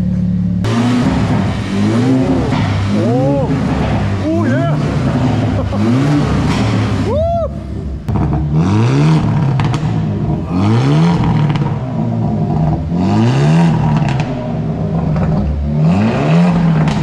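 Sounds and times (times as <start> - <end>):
car engine revving: 0.0 - 17.0
exhaust pops crackling: 0.1 - 7.1, 7.9 - 13.0, 13.6 - 17.0.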